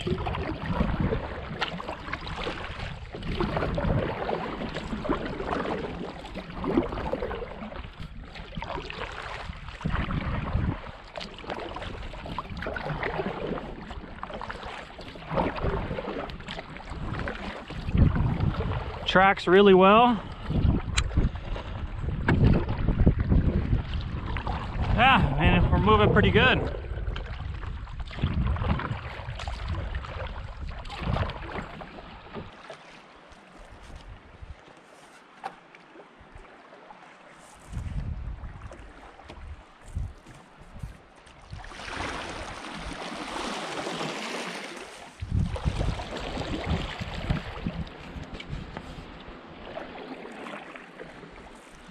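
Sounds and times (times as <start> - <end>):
wind rumble on microphone: 0.0 - 32.6, 33.6 - 34.7, 37.5 - 43.5, 45.1 - 49.9
paddle splashing in water: 0.0 - 51.9.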